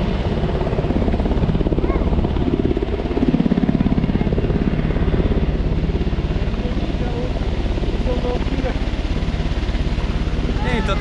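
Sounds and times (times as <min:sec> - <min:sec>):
helicopter rotor blades beating: 0:00.0 - 0:11.0.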